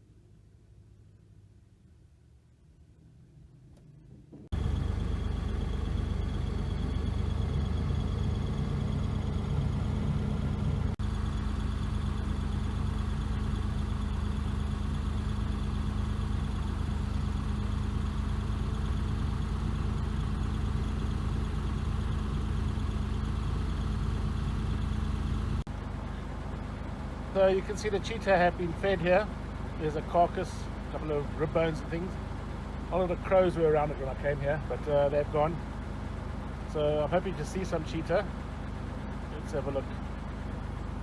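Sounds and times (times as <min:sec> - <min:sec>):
car engine running: 0:04.4 - 0:41.0.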